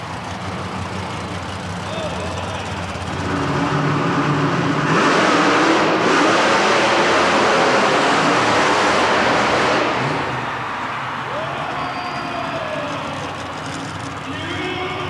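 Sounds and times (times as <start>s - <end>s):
monster truck engines at full throttle: 0.0s - 15.0s.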